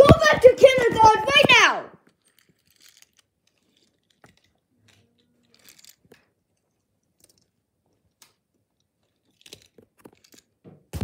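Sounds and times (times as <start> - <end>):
faint handling clicks and rustles: 0.8 - 11.0.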